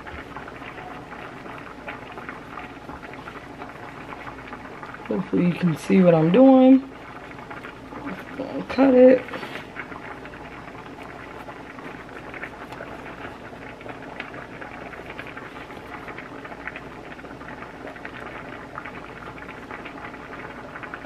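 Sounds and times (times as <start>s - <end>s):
pot bubbling at the boil: 0.0s - 21.0s.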